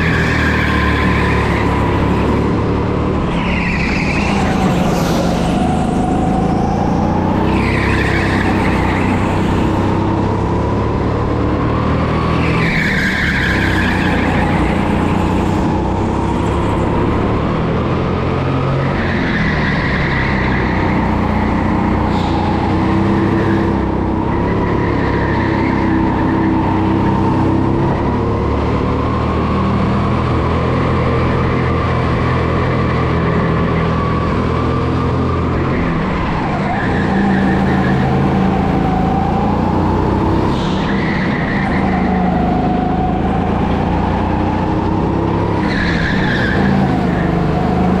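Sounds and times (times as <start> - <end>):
tyres skidding and squealing: 0.0 - 48.0.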